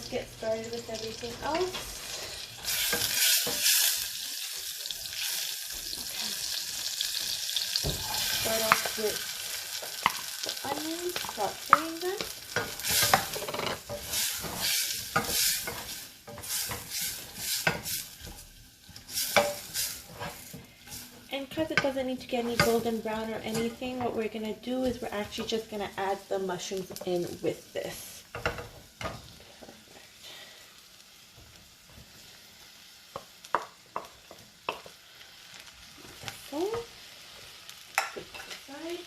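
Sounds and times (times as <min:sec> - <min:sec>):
onions sizzling in a saucepan: 0:00.0 - 0:39.0.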